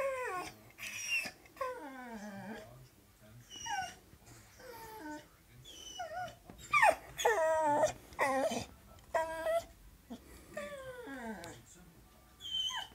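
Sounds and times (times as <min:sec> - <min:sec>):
dog whining: 0:00.0 - 0:02.7, 0:03.4 - 0:11.6, 0:12.4 - 0:12.9.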